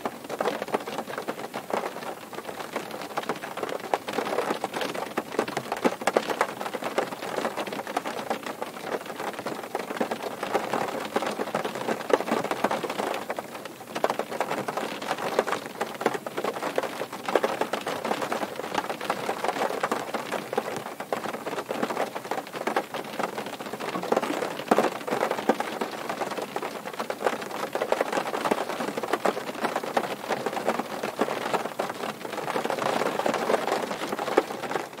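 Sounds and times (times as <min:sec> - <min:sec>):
rain on car roof from inside: 0:00.0 - 0:35.0.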